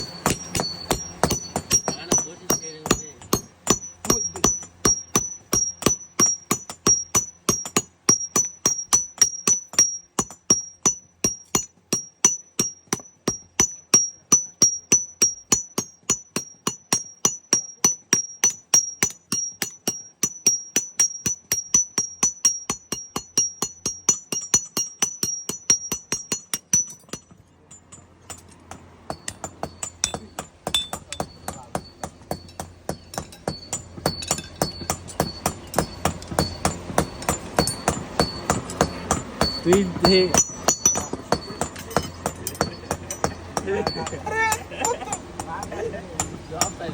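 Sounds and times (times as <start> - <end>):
hammer striking metal on anvil: 0.0 - 46.9.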